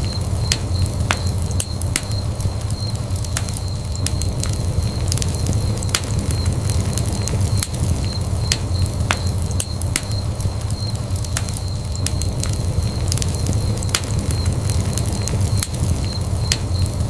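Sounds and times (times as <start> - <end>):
fire rumbling: 0.0 - 17.0
logs crackling and popping: 0.0 - 17.0.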